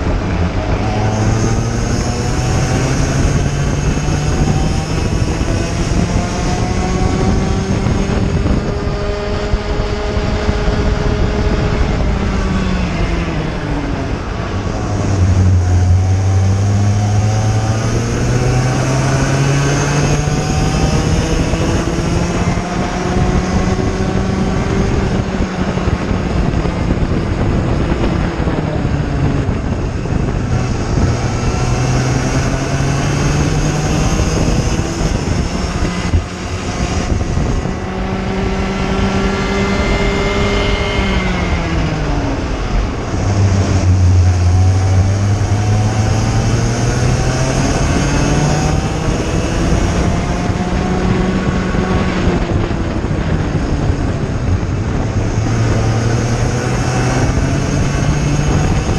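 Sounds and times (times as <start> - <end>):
kart engine at racing speed: 0.0 - 58.9
wind and road noise: 0.0 - 58.9.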